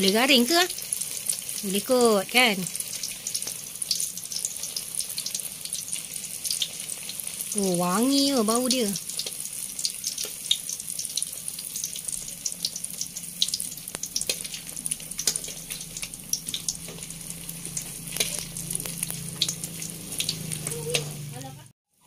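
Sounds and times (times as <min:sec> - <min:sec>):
food frying in hot oil: 0:00.0 - 0:22.0.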